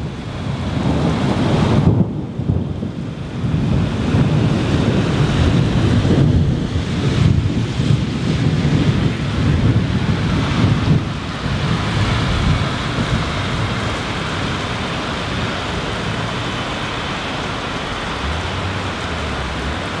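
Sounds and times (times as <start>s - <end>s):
heavy rain pouring: 0.0s - 20.0s
low thunder rumble: 0.0s - 20.0s.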